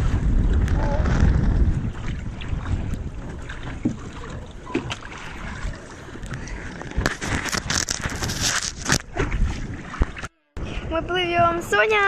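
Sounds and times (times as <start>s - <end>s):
water splashing around boat: 0.0s - 12.0s
wind rumbling on microphone: 0.0s - 12.0s.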